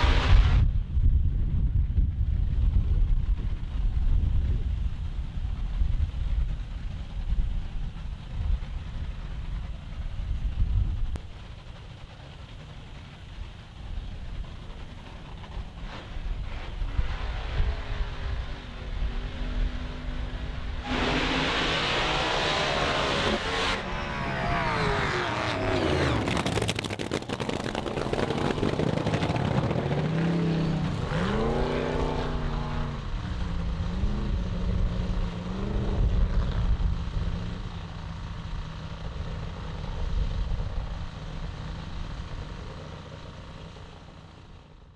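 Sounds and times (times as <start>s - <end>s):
drag car engines roaring: 0.0s - 1.4s, 2.2s - 44.9s.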